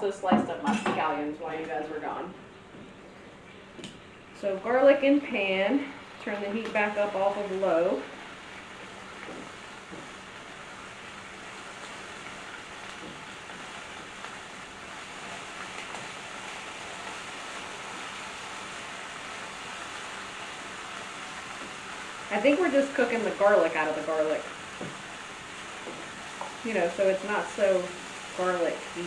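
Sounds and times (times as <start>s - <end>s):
garlic sizzling in hot oil: 3.6s - 29.0s.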